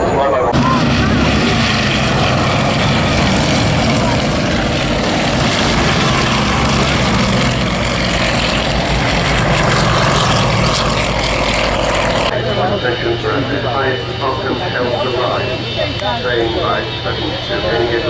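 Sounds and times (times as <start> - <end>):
aircraft engines running: 0.0 - 18.0.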